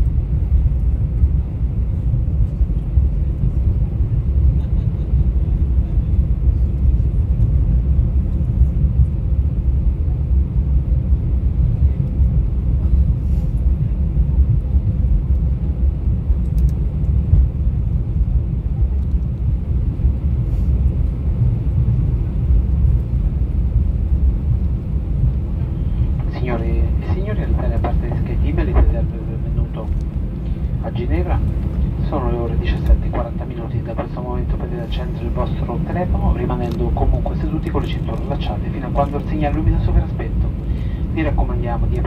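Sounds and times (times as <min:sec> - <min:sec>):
aircraft cabin low rumble: 0:00.0 - 0:42.0.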